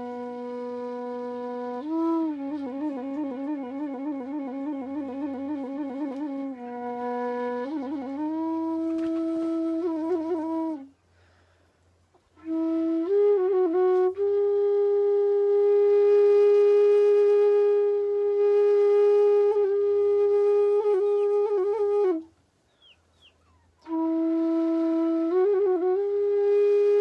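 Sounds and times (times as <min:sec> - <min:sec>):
solo flute folk melody: 0:00.0 - 0:27.0.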